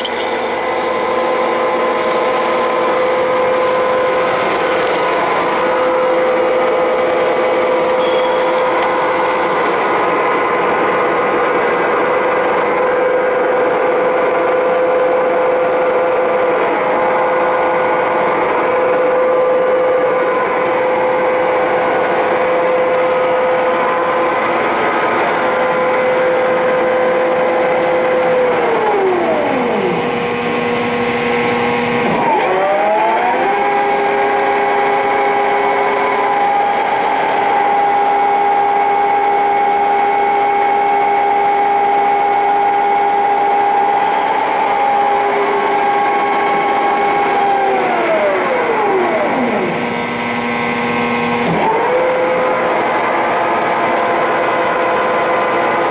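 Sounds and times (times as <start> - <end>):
lathe running with whine: 0.0 - 55.9.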